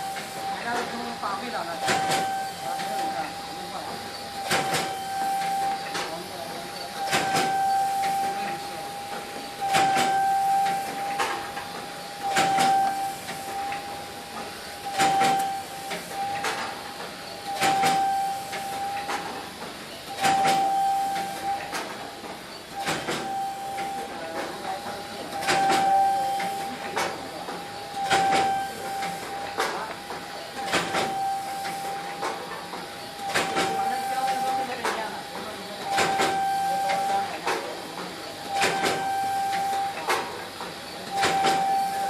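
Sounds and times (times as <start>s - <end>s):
machine clatter and hiss: 0.0s - 42.0s
machine high whine: 0.0s - 42.0s.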